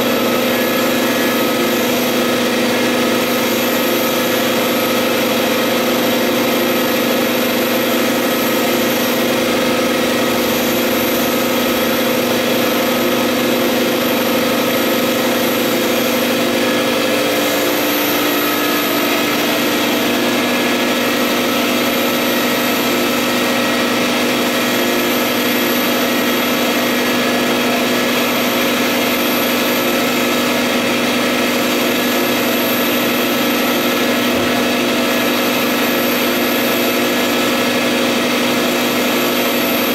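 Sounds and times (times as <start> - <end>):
printer machine hum: 0.0 - 39.9.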